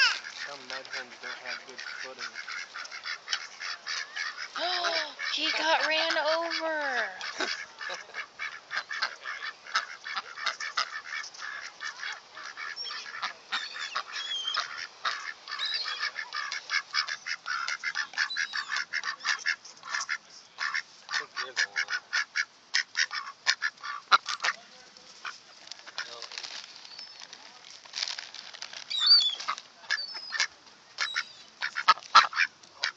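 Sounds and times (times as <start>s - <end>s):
ducks and coots calling: 0.0s - 27.4s, 28.0s - 32.9s.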